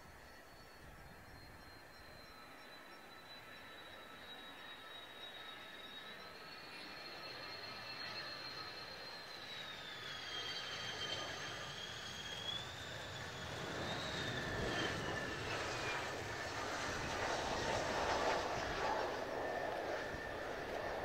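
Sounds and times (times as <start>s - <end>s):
jet whine: 0.0s - 21.0s
jet engine roar: 1.3s - 21.0s.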